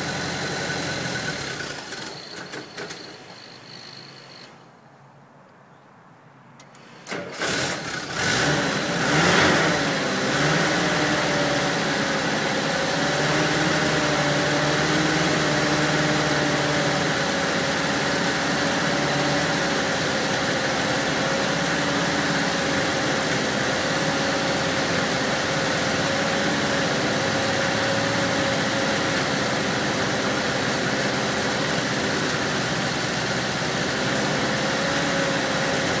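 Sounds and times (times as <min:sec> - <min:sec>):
engine starting and idling: 0:00.0 - 0:04.6, 0:06.6 - 0:36.0.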